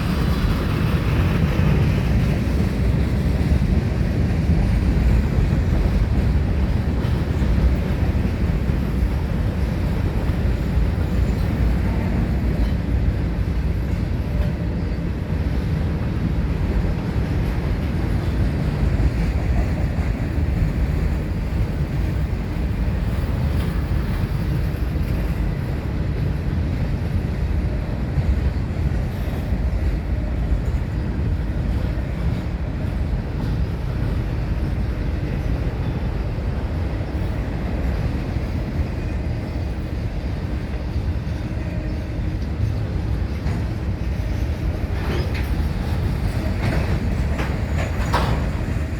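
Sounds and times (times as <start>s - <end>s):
freight train rumbling past: 0.0s - 48.9s.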